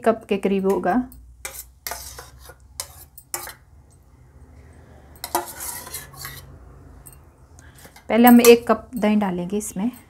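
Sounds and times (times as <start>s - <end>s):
spoon clinking against steel bowl: 0.5s - 4.1s, 4.7s - 10.0s.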